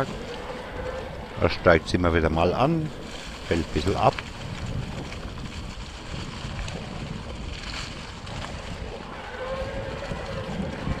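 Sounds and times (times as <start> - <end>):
bike tyres rolling on trail: 0.0 - 11.0
wind buffeting microphone: 0.0 - 11.0.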